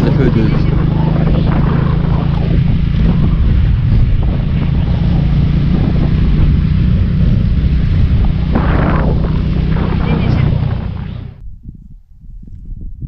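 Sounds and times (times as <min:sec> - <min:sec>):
motorcycle engine running: 0:00.0 - 0:11.4
wind noise on microphone: 0:00.0 - 0:13.0.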